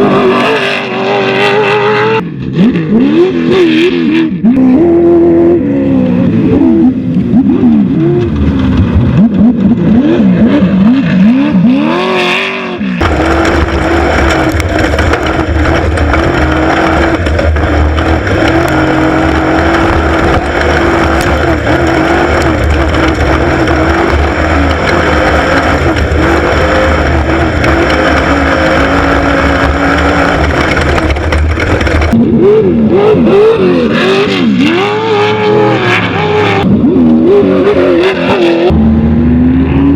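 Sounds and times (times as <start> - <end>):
race vehicle engines revving: 0.0 - 39.9.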